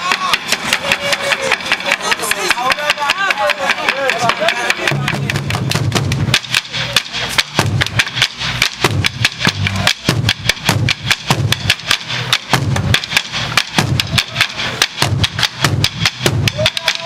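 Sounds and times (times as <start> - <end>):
deep drum beats: 0.0 - 17.0
drum ensemble fast rhythm: 0.0 - 17.0
sharp stick strokes: 0.0 - 17.0.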